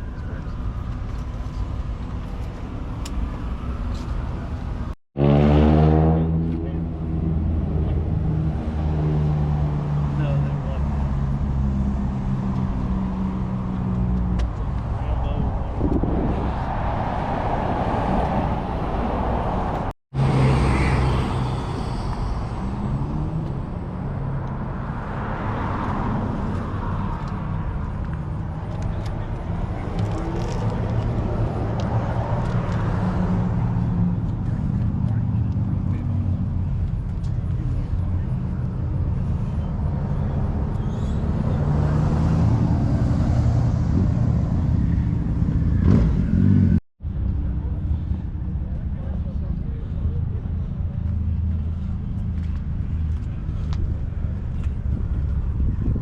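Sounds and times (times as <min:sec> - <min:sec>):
car engines and traffic noise: 0:00.0 - 0:56.0.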